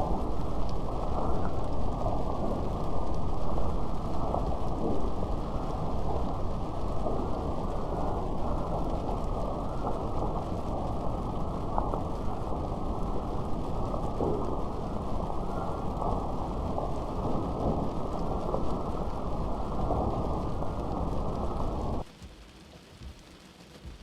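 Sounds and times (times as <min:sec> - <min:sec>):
muffled heavy rain: 0:00.0 - 0:24.0.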